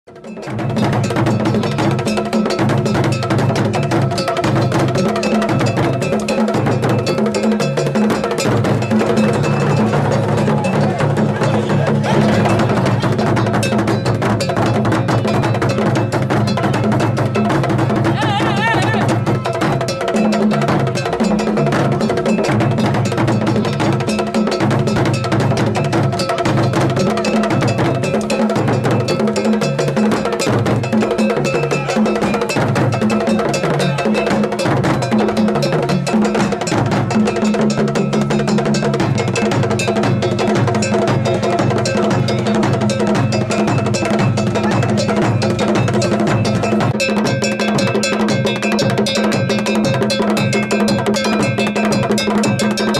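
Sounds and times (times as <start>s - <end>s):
barrel drums beaten with sticks: 0.1s - 52.9s
metal bell clanging: 0.2s - 52.9s.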